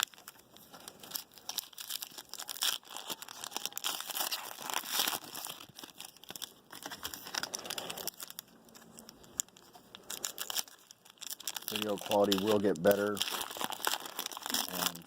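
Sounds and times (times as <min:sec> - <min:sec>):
card pack wrappers crinkling: 0:00.0 - 0:15.0.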